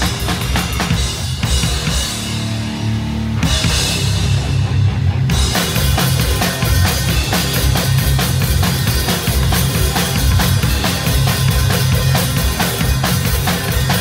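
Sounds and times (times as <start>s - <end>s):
amplified guitars: 0.0s - 14.0s
death metal band playing live: 0.0s - 14.0s
drum kit: 0.0s - 14.0s.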